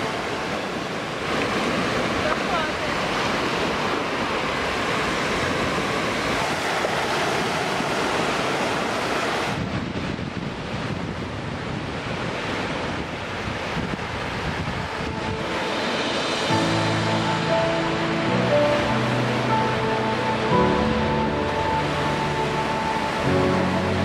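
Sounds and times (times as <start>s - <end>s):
small waves breaking on beach: 0.0s - 24.0s
wind on microphone: 0.0s - 24.0s.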